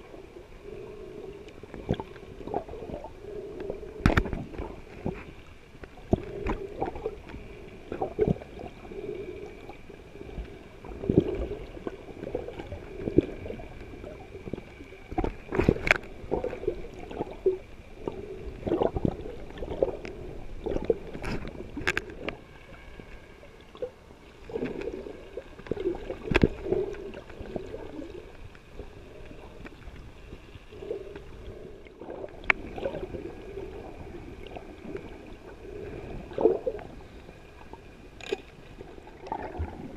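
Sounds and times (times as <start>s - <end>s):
faint steady whine: 0.0s - 39.9s
muffled underwater sloshing: 0.0s - 39.9s.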